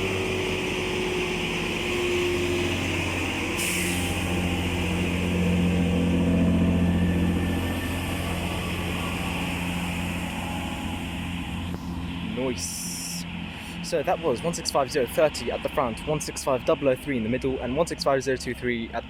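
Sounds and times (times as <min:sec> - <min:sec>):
train diesel engines droning: 0:00.0 - 0:19.0.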